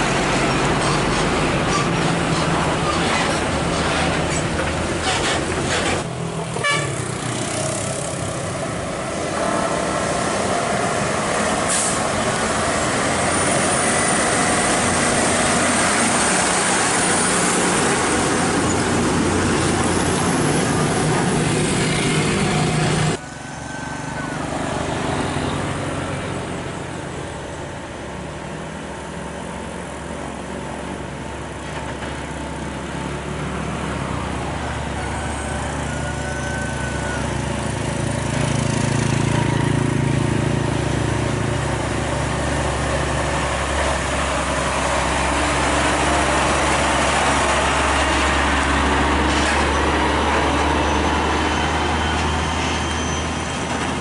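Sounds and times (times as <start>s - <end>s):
truck diesel engine under load: 0.0s - 54.0s
tyre and road noise: 0.0s - 54.0s.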